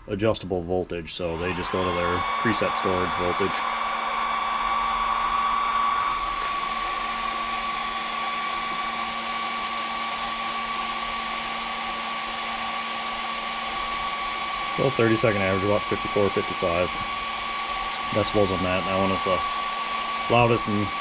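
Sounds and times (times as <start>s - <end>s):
small cooling fan whining: 0.0s - 21.0s.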